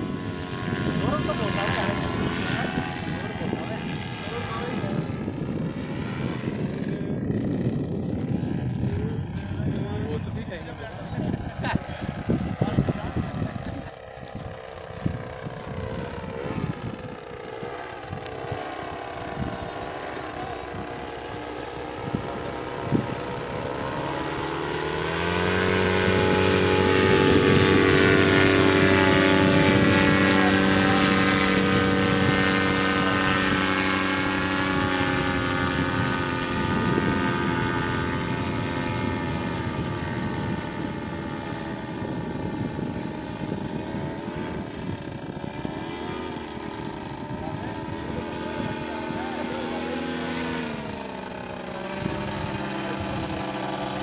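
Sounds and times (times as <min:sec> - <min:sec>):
paramotor engine and propeller drone: 0:00.0 - 0:54.0.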